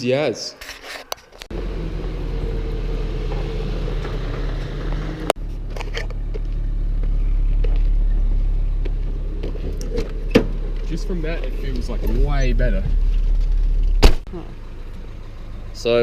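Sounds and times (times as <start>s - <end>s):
car engine running: 1.5s - 16.0s.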